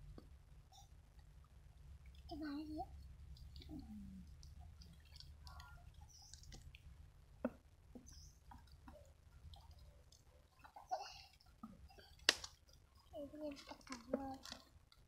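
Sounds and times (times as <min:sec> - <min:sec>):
faint low rumble: 0:00.0 - 0:15.0
small clicks and taps: 0:02.9 - 0:15.0.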